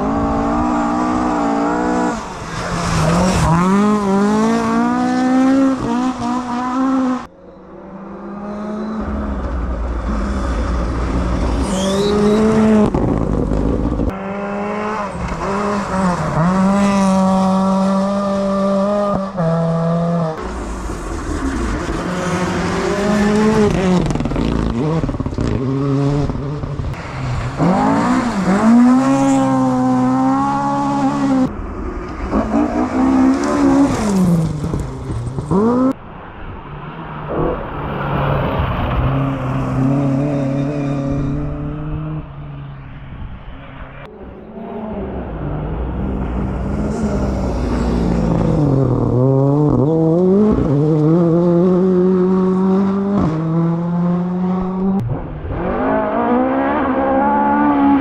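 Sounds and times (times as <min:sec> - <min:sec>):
rally cars revving past: 0:00.0 - 0:58.0.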